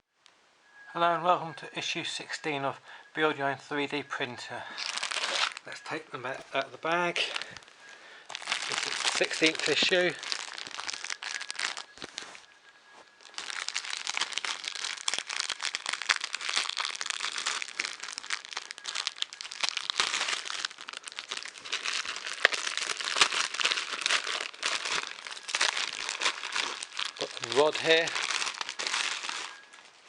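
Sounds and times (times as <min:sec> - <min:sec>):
plastic bag crinkling: 0:04.2 - 0:30.0.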